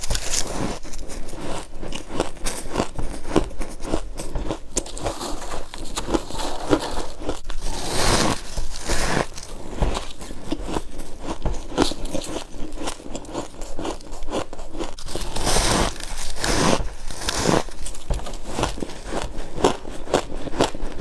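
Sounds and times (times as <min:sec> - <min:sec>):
chewing crunchy frost: 0:00.0 - 0:21.0.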